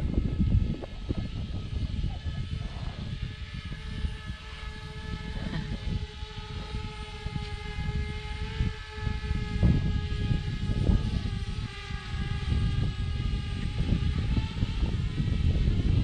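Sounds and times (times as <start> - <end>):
drone propellers whining: 0.0 - 16.0
wind buffeting microphone: 0.0 - 16.0.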